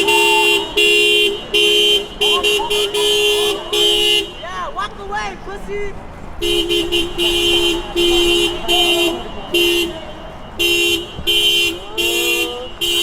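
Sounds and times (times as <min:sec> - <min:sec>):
car horn honking: 0:00.0 - 0:05.6, 0:06.4 - 0:13.0.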